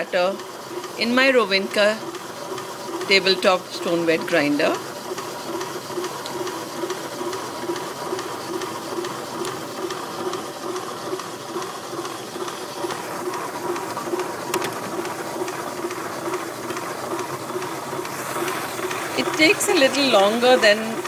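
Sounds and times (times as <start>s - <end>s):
wet grinder churning: 0.0s - 21.0s.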